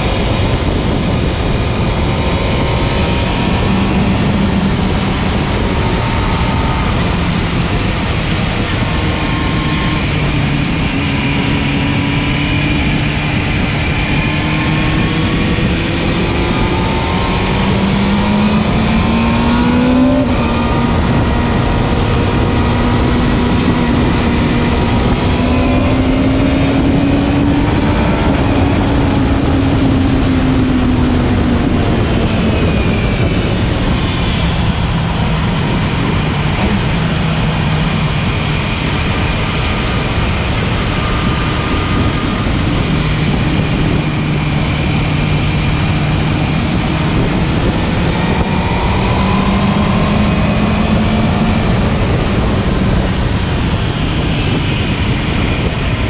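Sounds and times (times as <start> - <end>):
motorcycle engine running at speed: 0.0 - 56.0
wind rush: 0.0 - 56.0.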